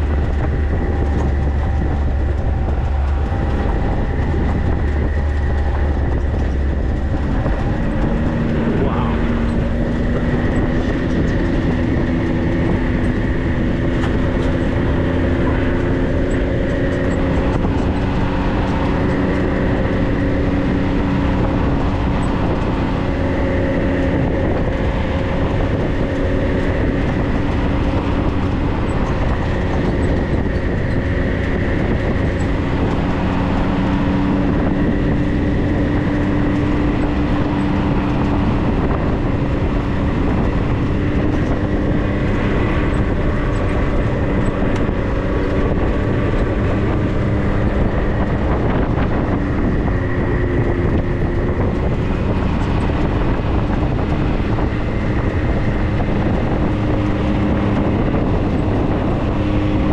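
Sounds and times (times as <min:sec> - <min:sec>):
vehicle engine drone: 0:00.0 - 0:59.9.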